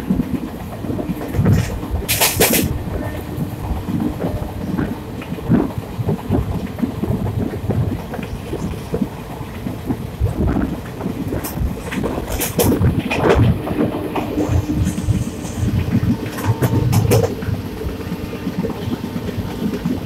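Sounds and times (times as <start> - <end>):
train knocks: 0.0 - 20.0
train wheels rumbling on rail: 0.0 - 20.0.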